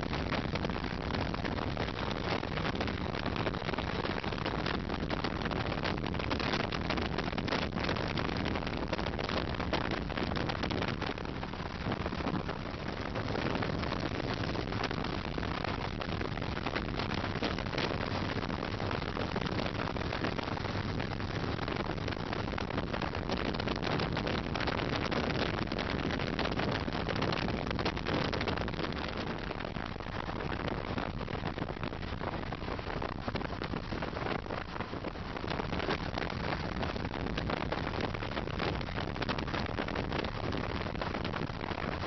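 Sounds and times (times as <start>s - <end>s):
wind buffeting microphone: 0.0s - 42.0s
wind rush and road noise: 0.0s - 42.0s.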